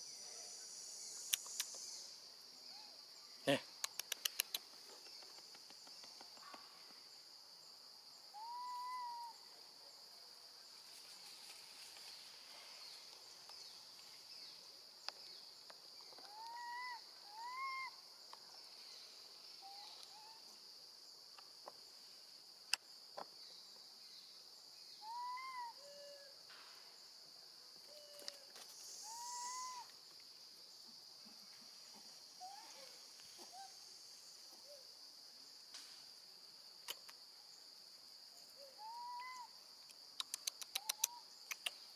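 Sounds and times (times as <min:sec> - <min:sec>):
crickets buzzing: 0:00.0 - 0:41.9.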